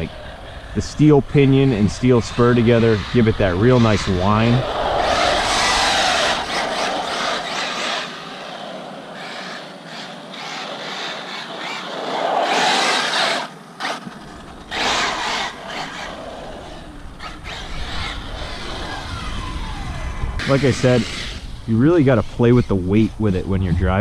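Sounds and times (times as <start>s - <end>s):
rc truck motor surging: 0.0s - 24.0s.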